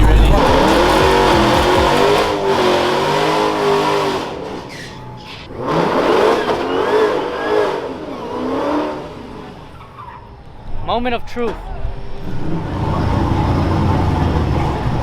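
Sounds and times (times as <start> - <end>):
car engine accelerating: 0.0 - 10.1, 12.1 - 15.0.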